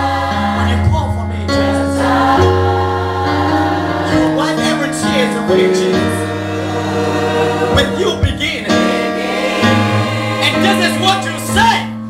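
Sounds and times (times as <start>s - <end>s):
gospel choir singing: 0.0s - 12.0s
sustained instrumental chords: 0.0s - 12.0s.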